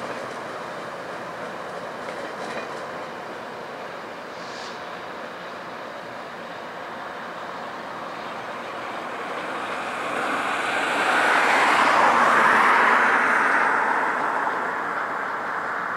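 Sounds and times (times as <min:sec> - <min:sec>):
passenger train rumble: 0:00.0 - 0:15.9.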